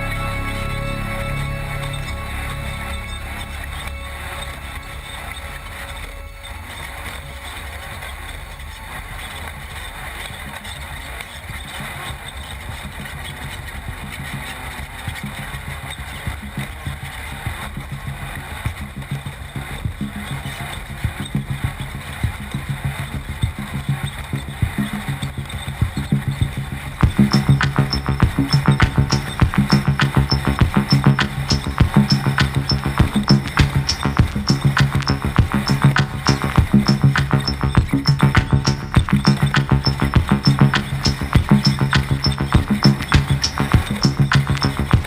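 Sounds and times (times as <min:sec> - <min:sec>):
music beat: 0:00.0 - 0:07.4, 0:15.1 - 0:45.0.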